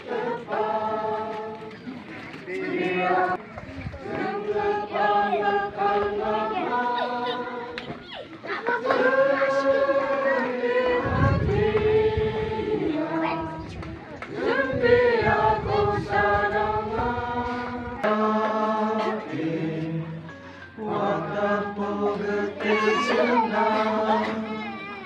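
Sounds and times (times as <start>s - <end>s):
congregation singing: 0.0s - 3.4s, 4.0s - 24.8s.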